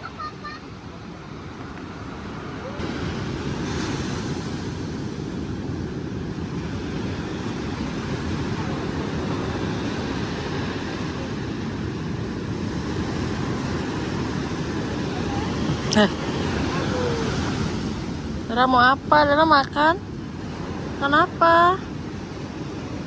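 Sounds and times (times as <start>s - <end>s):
waves washing on beach: 0.0s - 23.0s
wind on microphone: 0.0s - 23.0s.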